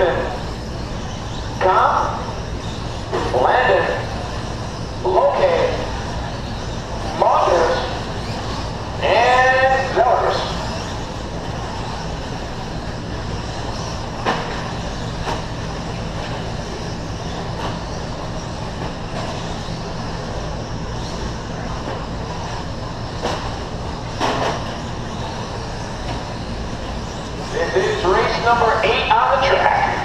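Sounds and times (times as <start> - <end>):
rc trucks rumbling and hissing: 0.0 - 30.0.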